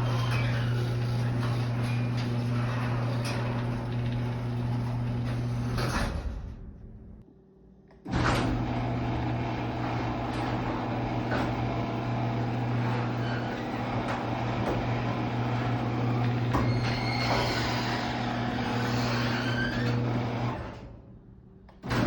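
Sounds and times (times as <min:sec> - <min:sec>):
garage door clunk: 0:00.0 - 0:07.1, 0:08.0 - 0:21.1
garage door opener motor hum: 0:00.0 - 0:07.2, 0:08.0 - 0:22.0.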